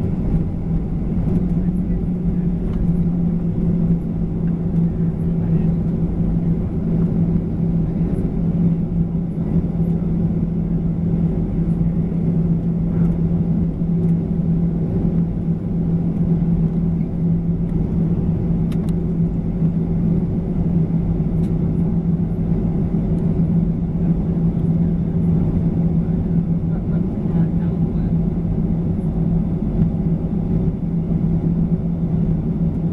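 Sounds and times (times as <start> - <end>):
airplane cabin engine hum: 0.0 - 32.9.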